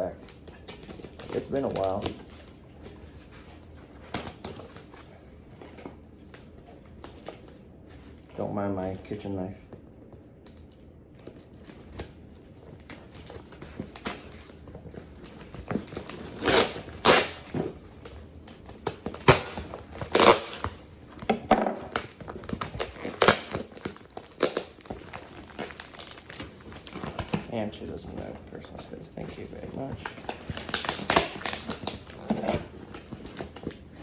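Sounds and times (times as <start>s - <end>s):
plastic packaging crinkling and tearing: 0.0s - 5.1s, 10.4s - 34.0s.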